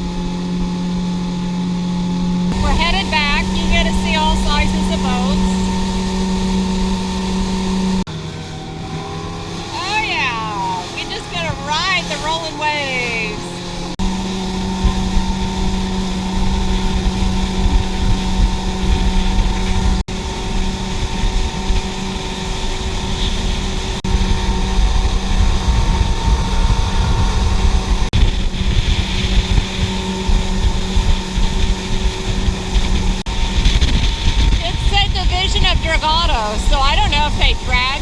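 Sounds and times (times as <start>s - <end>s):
wind rumble on microphone: 0.0s - 9.8s, 11.0s - 38.0s
motorboat engine hum: 0.0s - 38.0s.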